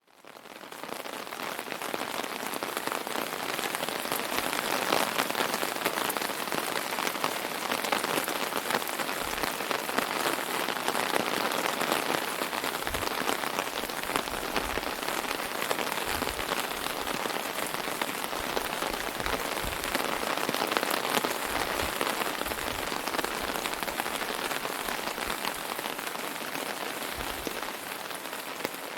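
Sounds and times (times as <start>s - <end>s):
rain pattering on an umbrella: 0.0s - 28.9s.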